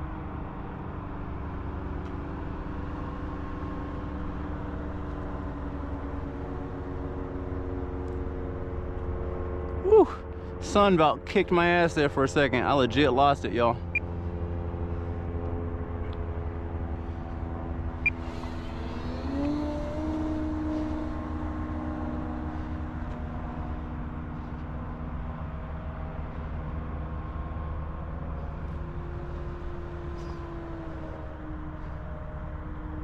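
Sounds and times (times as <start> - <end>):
electric motor and propeller whine: 0.0 - 13.0, 13.8 - 33.0.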